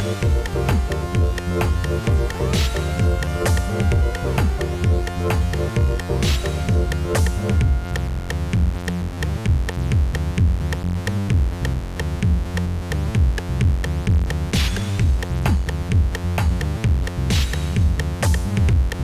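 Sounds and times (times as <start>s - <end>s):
electronic music with drum machine: 0.0s - 19.0s.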